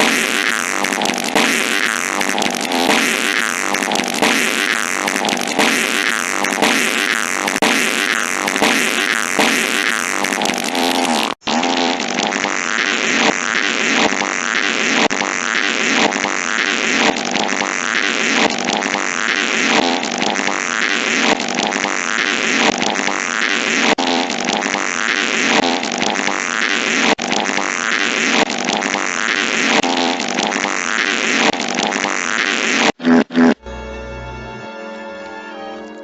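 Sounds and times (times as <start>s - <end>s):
fart noises into microphone: 0.0s - 33.6s.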